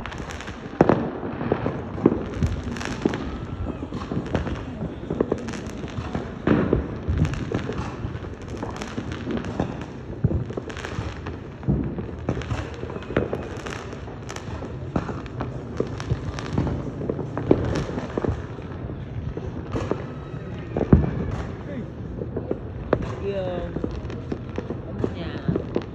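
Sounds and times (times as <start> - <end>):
fireworks bangs and pops: 0.0 - 25.9.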